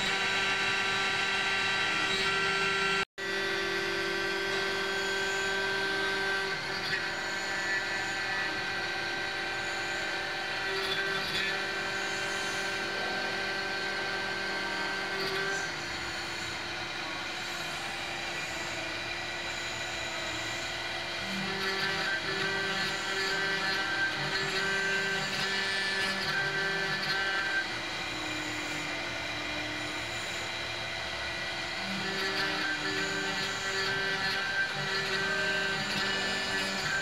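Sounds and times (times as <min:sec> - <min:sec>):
milling machine whine: 0:00.0 - 0:37.0.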